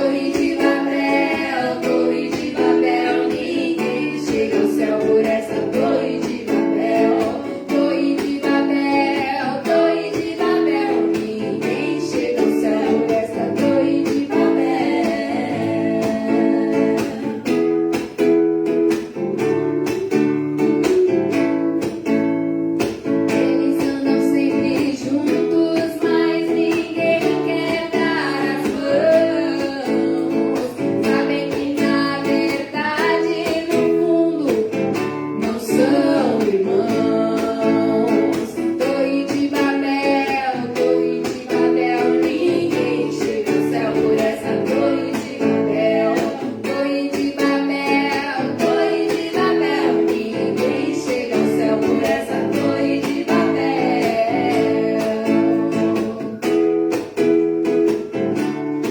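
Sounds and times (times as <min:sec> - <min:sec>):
guitar strumming: 0:00.0 - 0:58.9.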